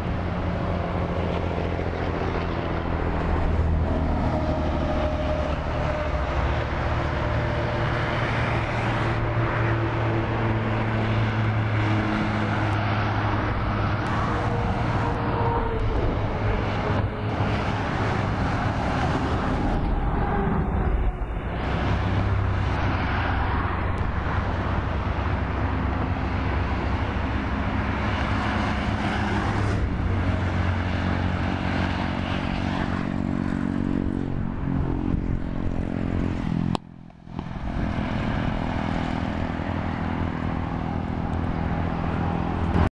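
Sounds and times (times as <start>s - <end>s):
highway traffic passing: 0.0s - 42.9s.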